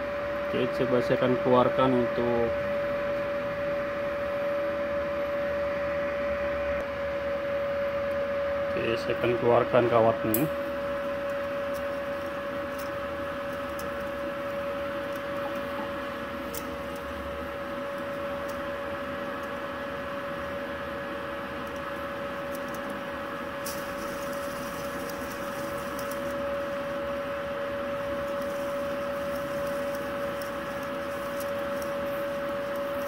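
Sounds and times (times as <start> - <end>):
wire feed motor whine: 0.0 - 33.0.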